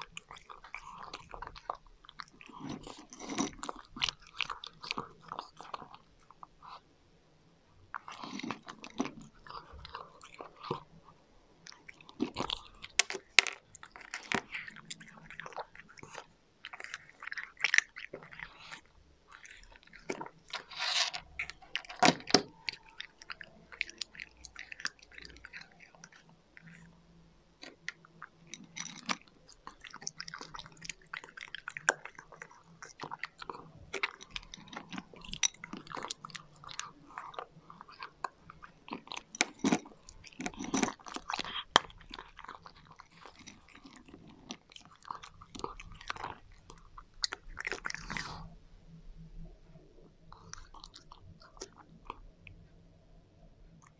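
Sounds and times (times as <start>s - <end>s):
cat crunching dry kibble: 0.0s - 6.8s, 7.9s - 27.0s, 27.6s - 48.6s, 50.2s - 52.6s.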